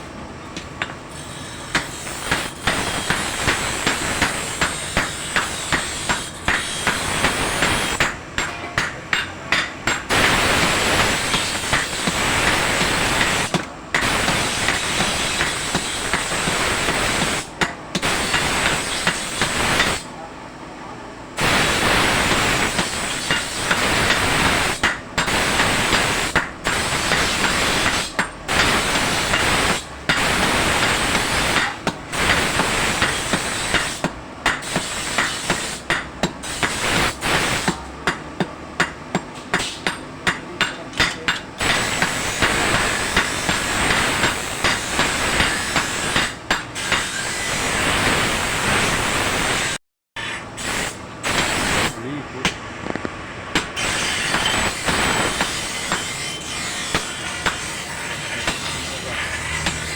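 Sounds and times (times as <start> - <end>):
hammer striking steel on anvil: 0.6 - 20.1, 22.3 - 47.5, 53.5 - 59.9
steady loud hiss: 1.7 - 20.6, 21.2 - 38.0, 39.6 - 49.8, 50.4 - 52.4, 53.3 - 56.2.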